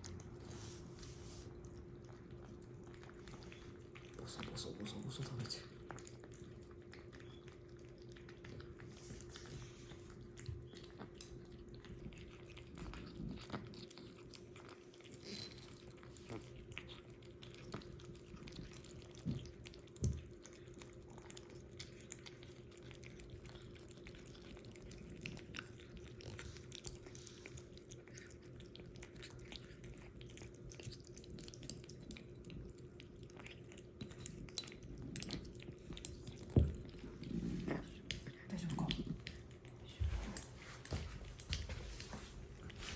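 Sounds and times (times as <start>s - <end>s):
kitten eating clicks: 1.7s - 40.4s.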